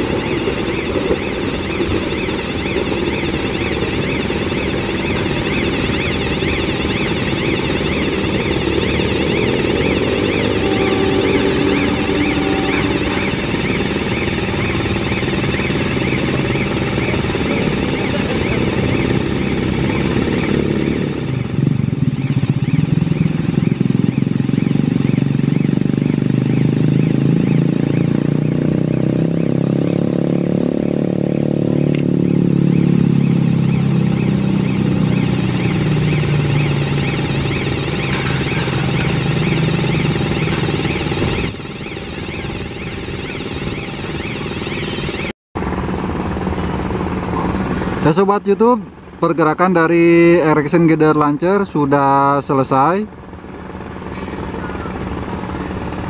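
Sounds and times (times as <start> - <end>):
high warbling tone: 0.0 - 45.3
power unit running: 0.0 - 48.0.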